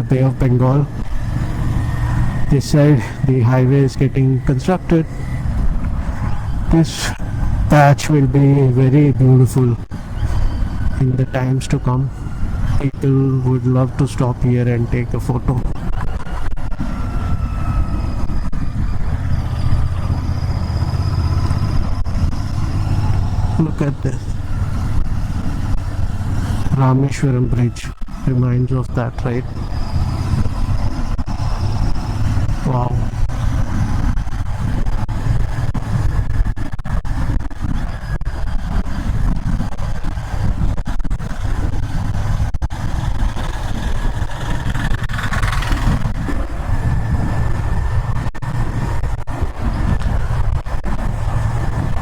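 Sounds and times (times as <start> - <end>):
motorcycle engine cruising: 0.0 - 52.0
wind rushing over microphone: 0.0 - 52.0.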